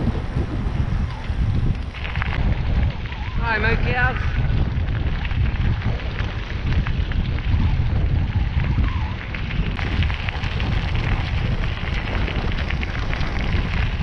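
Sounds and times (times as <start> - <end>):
bicycle tyres crunching on gravel: 0.0 - 14.0
wind buffeting microphone: 0.0 - 14.0.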